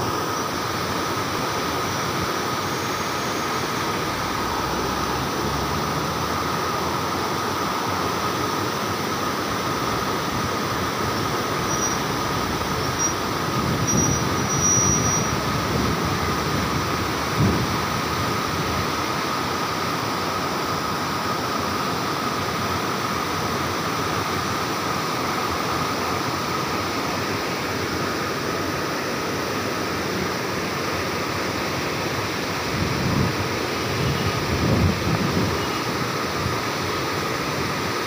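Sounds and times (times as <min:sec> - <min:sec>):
river water roaring through gates: 0:00.0 - 0:38.0.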